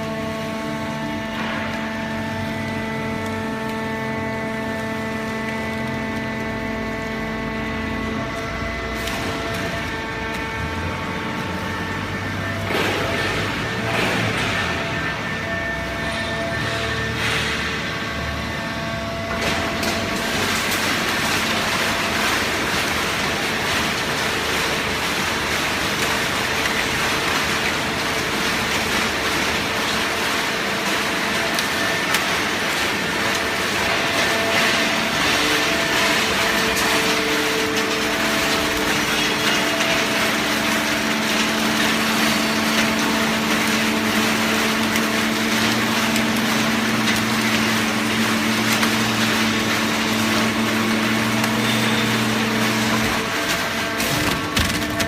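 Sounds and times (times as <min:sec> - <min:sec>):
baling press humming: 0:00.3 - 0:55.0.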